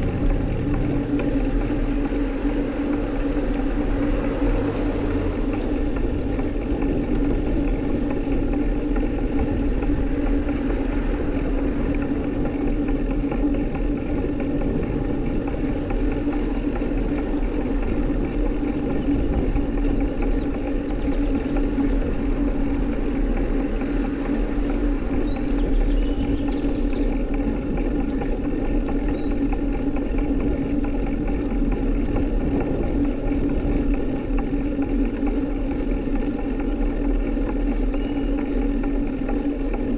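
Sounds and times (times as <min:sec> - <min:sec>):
wind noise: 0:00.0 - 0:36.0
bike rolling rumble: 0:00.0 - 0:39.9
constant low hum: 0:00.0 - 0:39.9.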